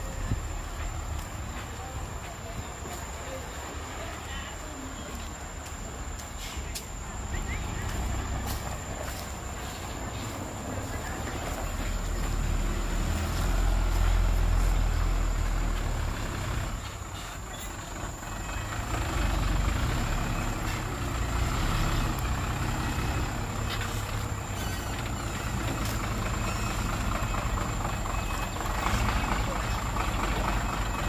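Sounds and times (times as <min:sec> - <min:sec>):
diesel truck engine rumbling: 0:00.0 - 0:31.0.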